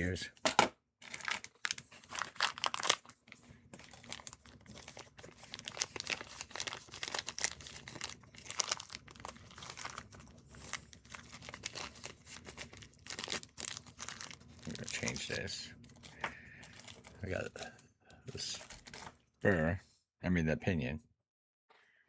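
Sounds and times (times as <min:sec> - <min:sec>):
rustling of handled parts: 0:01.1 - 0:19.2.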